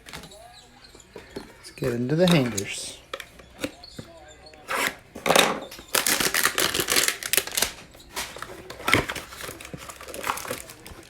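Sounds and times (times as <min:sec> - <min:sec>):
cardboard and packaging crinkling: 0:01.2 - 0:11.0.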